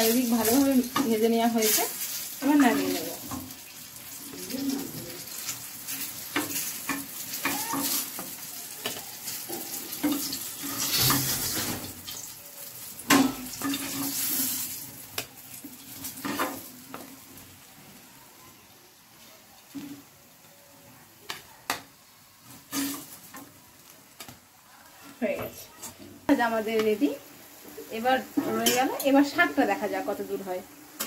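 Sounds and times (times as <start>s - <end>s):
slices sizzling in oil: 0.0s - 31.0s.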